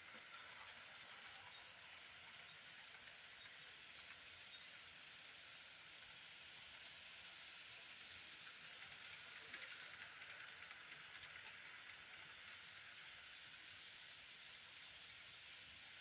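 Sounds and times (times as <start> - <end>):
model locomotives running on track: 0.0 - 16.0.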